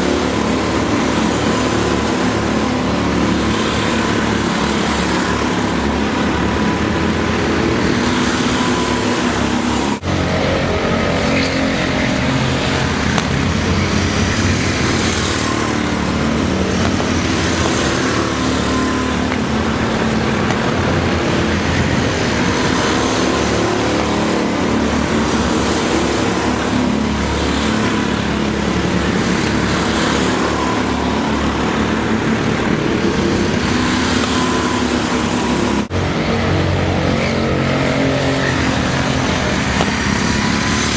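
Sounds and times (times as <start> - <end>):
go-kart engines racing: 0.0 - 40.9.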